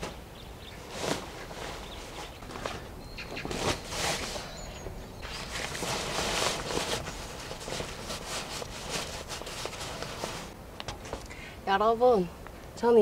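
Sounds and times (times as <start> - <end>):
nylon tent fabric rustling: 0.0 - 10.6.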